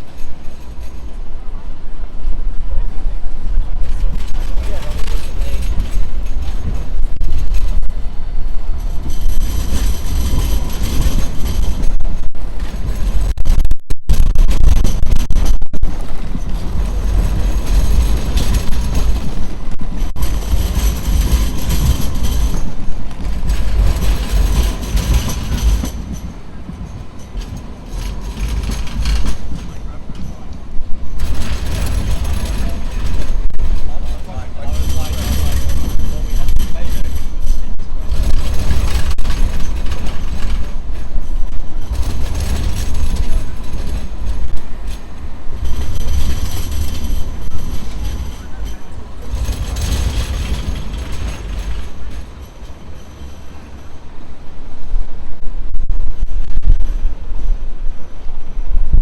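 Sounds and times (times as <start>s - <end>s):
tram rumbling past: 0.0s - 59.0s.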